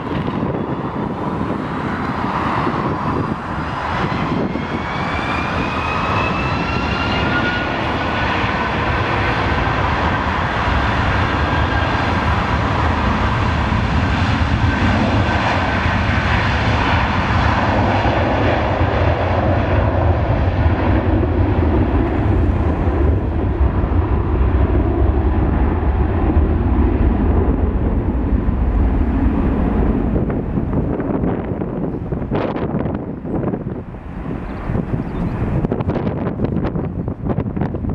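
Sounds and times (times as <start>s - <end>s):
deep jet engine rumble: 0.0s - 37.9s
jet engine whine: 0.0s - 37.9s.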